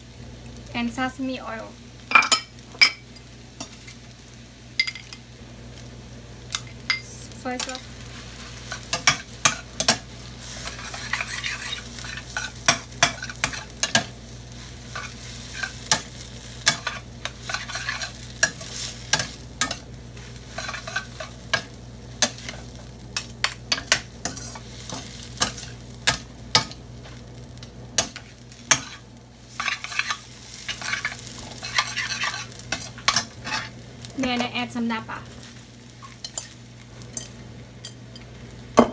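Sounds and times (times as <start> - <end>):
food sizzling: 0.0 - 38.9
utensils clanking on skillet: 2.1 - 4.0, 4.8 - 5.2, 6.5 - 38.9.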